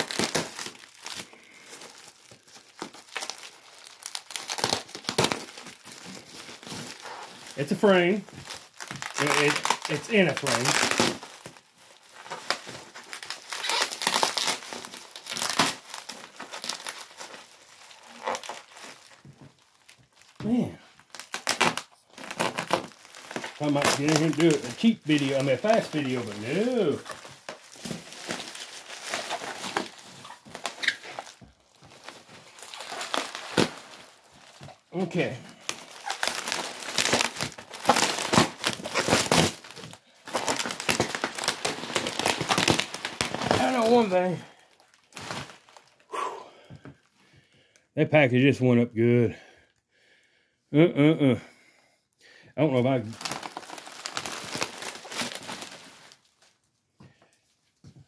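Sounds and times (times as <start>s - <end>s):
bubble wrap crinkling: 0.0s - 47.2s, 52.6s - 58.0s.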